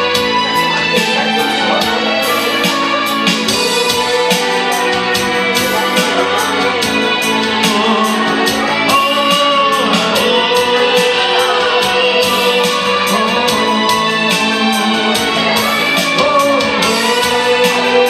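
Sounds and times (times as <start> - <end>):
guitar: 0.0 - 18.0
person singing: 0.0 - 18.0
song with steady beat: 0.0 - 18.0.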